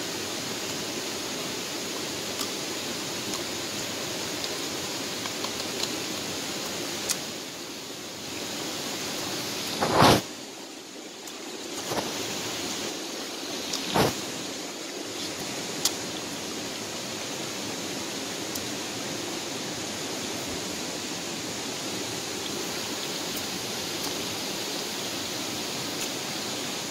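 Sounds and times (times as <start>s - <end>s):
steady rushing noise: 0.7s - 10.8s, 11.5s - 26.0s.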